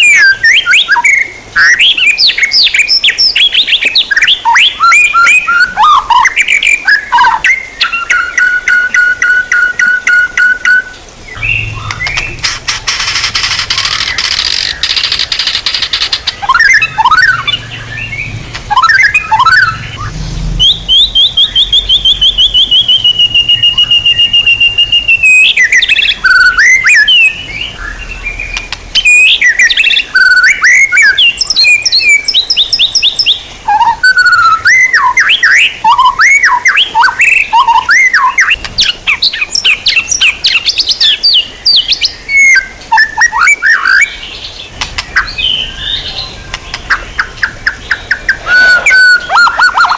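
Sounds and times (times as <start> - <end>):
songbird whistling and chirping: 0.0 - 49.9.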